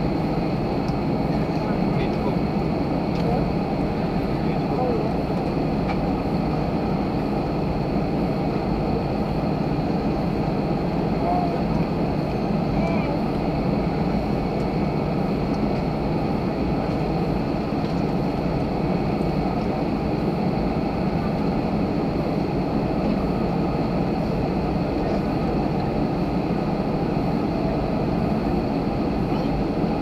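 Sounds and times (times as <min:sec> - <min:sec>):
jet engines humming: 0:00.0 - 0:30.0.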